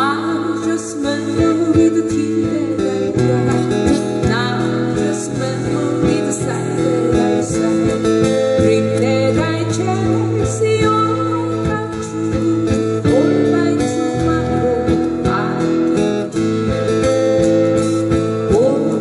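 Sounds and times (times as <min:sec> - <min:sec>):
acoustic guitars strumming: 0:00.0 - 0:19.0
person singing: 0:00.0 - 0:19.0.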